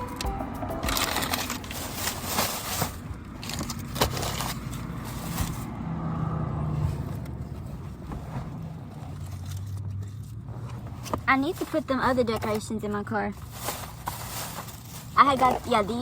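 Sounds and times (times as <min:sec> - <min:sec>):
objects rustling and scraping: 0:00.9 - 0:05.8, 0:06.7 - 0:16.0.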